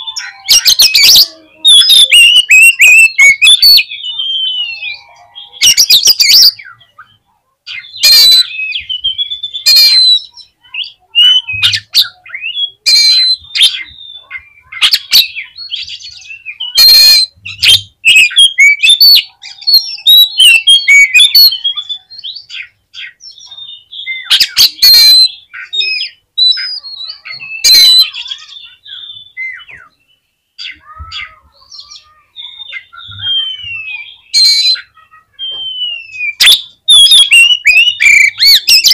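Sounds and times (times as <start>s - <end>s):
bird singing whistled notes: 0.0s - 7.2s, 7.8s - 38.9s
harsh rasping bird calls: 0.0s - 38.9s.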